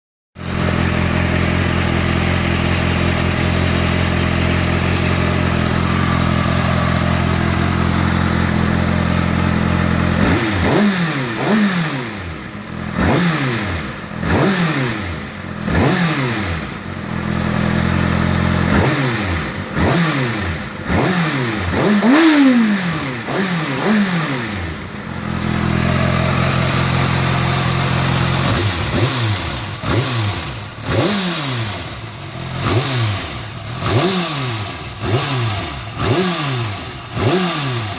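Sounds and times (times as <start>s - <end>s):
motorcycle engine idling and revving: 0.4s - 37.9s.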